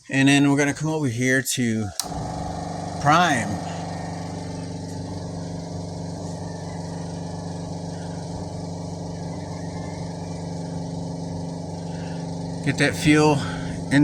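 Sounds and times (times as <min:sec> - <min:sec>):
machine humming: 0:02.0 - 0:14.0.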